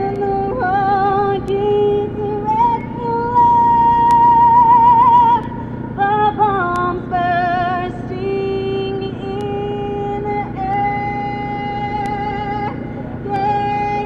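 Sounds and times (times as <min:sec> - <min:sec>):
low background hum: 0:00.0 - 0:14.0
woman singing with vibrato: 0:00.0 - 0:14.0.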